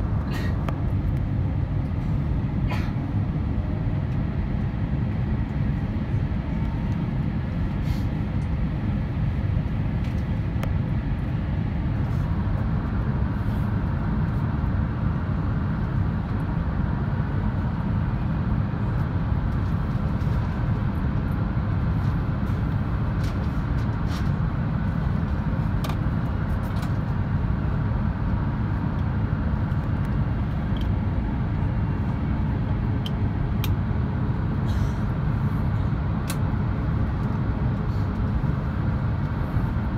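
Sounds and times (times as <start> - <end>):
airplane cabin rumble: 0.0 - 39.9
jet engines and airflow: 0.0 - 39.9.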